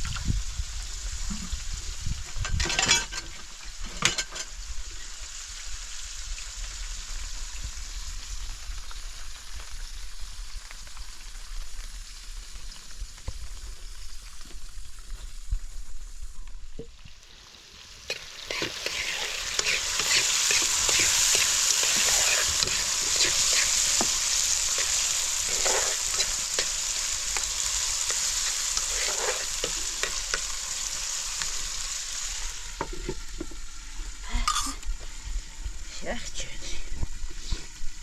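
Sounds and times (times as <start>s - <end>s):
crackling sizzle: 0.0s - 38.0s.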